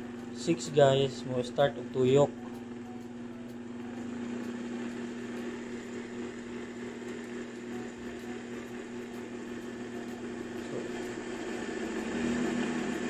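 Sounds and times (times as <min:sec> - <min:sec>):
blender motor humming: 0:00.0 - 0:13.0.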